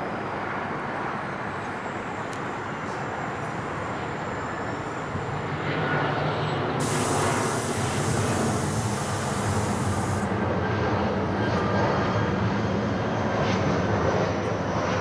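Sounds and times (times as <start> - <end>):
jet engines rumbling: 0.3 - 15.0.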